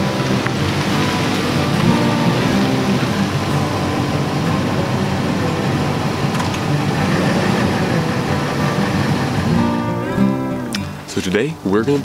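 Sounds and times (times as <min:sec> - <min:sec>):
pickup truck engine running: 0:00.0 - 0:11.7.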